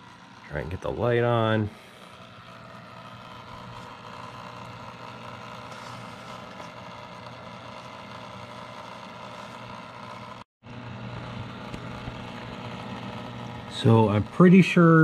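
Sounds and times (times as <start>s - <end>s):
aquarium pump hum: 0.0s - 15.0s.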